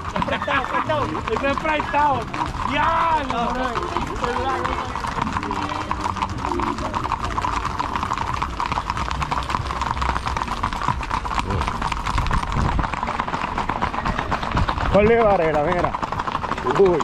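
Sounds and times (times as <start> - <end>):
horses' hooves clip-clopping: 0.0 - 17.0.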